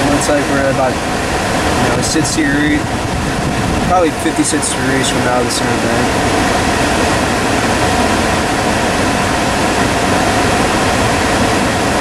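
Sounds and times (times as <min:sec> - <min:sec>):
air blower rushing from vent: 0:00.0 - 0:12.0
car engine at raised revs: 0:00.0 - 0:12.0.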